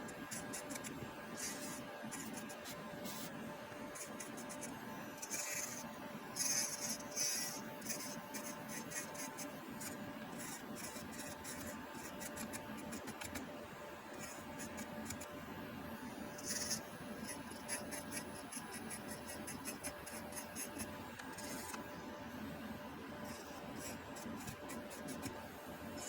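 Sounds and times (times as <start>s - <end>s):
small fan motor running: 0.0s - 22.5s, 23.1s - 26.0s.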